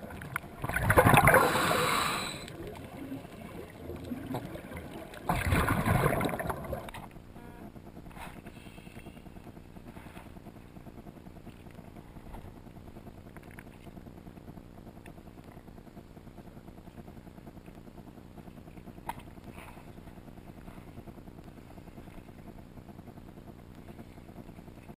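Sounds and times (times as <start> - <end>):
outboard motors running: 0.0 - 24.9.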